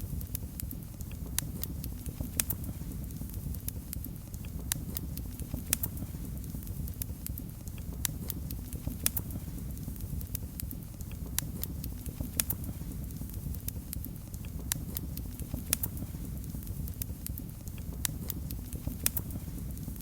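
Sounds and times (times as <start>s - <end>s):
fire flames rumbling: 0.0s - 20.0s
fire popping and snapping: 0.0s - 20.0s.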